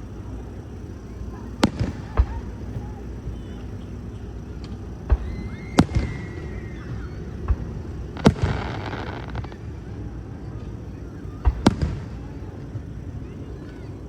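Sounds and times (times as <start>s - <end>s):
crackling fizz of fireworks: 0.0s - 14.0s
fireworks booming: 0.0s - 14.0s.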